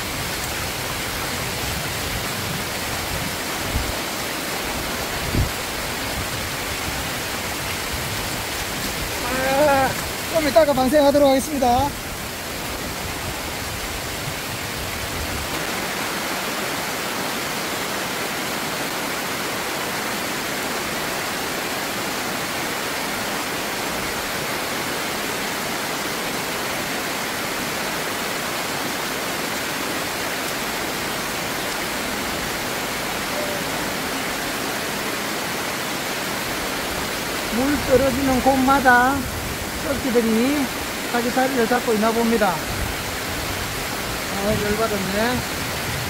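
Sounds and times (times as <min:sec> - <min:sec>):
water rushing over a weir: 0:00.0 - 0:46.0.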